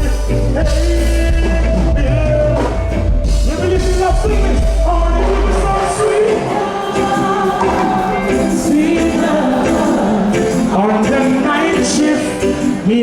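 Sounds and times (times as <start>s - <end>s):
heavy bass: 0.0s - 13.0s
live band music: 0.0s - 13.0s
wordless singing: 0.0s - 13.0s.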